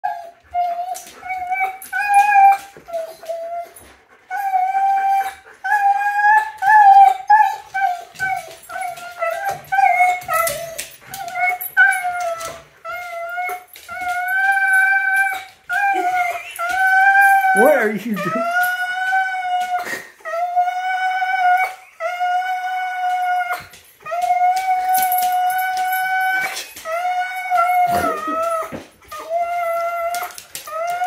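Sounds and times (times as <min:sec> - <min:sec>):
husky whining and howling: 0:00.0 - 0:31.0.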